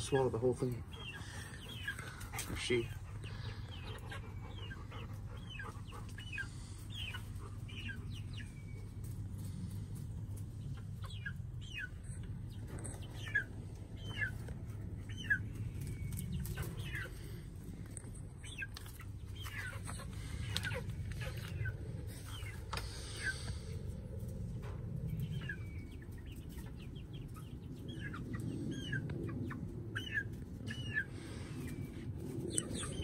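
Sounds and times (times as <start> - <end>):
chicks peeping: 0.0 - 33.0
low steady rumble: 0.0 - 33.0.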